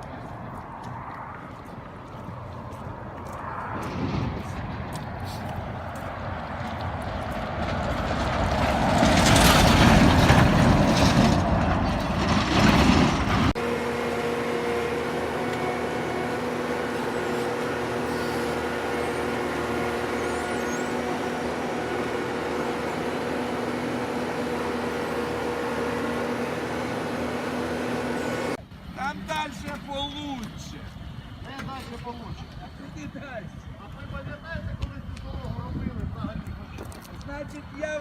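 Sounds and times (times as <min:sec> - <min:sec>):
engine and tyre drone: 0:00.0 - 0:31.4
road noise rush: 0:00.0 - 0:38.0.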